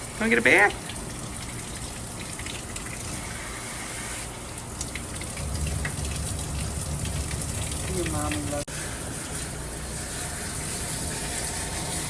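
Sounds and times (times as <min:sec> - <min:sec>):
water running from sprayer: 0:00.0 - 0:12.0.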